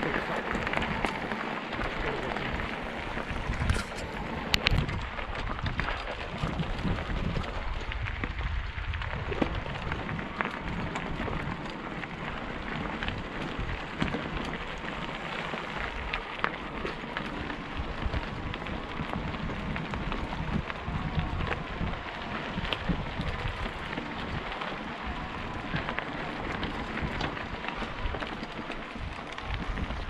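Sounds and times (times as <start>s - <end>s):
bike tyres rolling on gravel: 0.0s - 30.0s.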